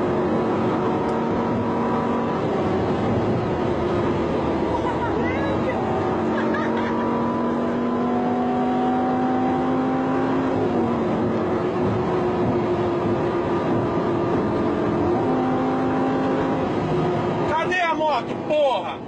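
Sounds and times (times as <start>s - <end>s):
road and wind noise: 0.0s - 19.0s
vehicle engine running hard: 0.0s - 19.0s.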